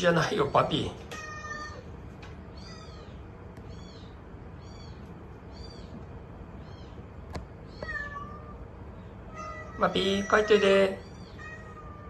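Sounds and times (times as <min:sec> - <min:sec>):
cat mewing: 0:00.2 - 0:12.0.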